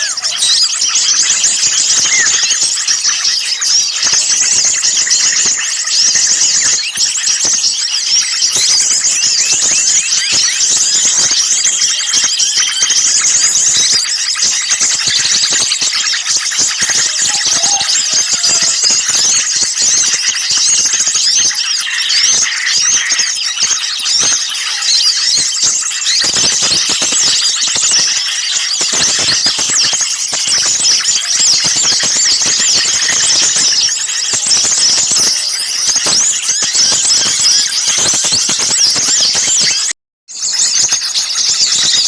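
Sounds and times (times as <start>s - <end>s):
songbirds chirping in chorus: 0.0s - 42.0s.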